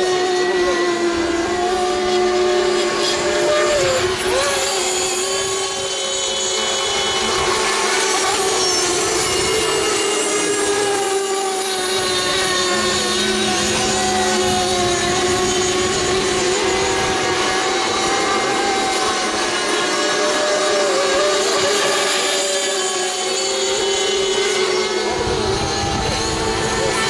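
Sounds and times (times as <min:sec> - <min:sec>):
model boat engines whining: 0:00.0 - 0:27.0.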